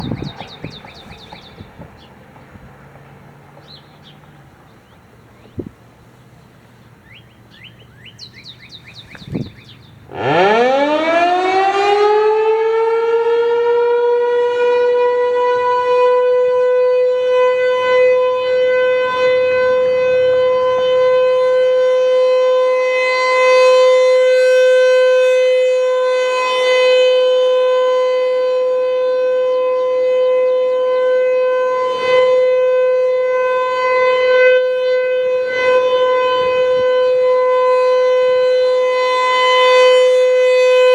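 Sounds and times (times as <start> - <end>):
tornado siren wailing: 0.0 - 1.9, 9.3 - 40.9.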